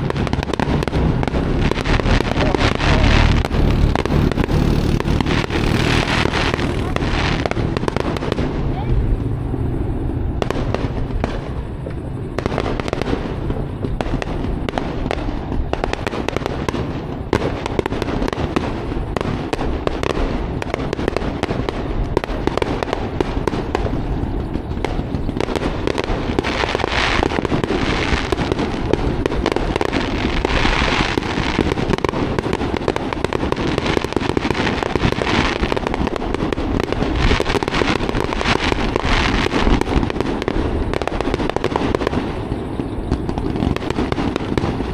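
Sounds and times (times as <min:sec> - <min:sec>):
fireworks crackling and popping: 0:00.0 - 0:44.9.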